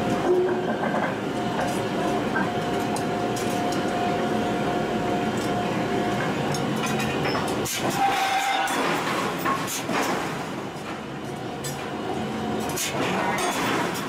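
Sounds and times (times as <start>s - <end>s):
heavy machinery rumble: 0.0s - 14.0s.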